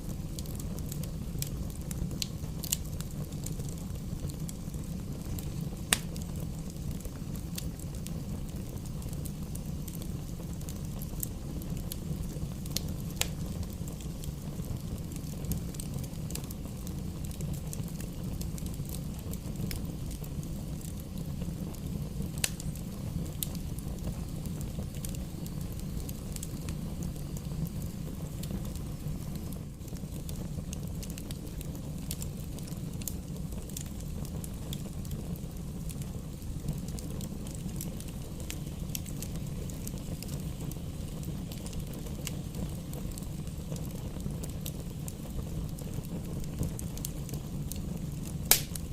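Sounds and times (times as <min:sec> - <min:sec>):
fire crackling and popping: 0:00.0 - 0:48.9.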